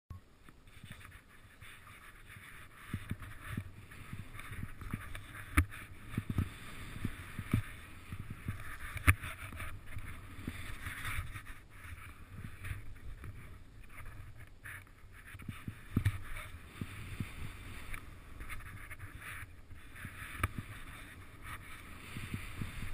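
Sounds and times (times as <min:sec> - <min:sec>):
wind rumbling on microphone: 0:00.5 - 0:22.9
skis hissing through powder snow: 0:01.5 - 0:14.0, 0:15.2 - 0:22.9.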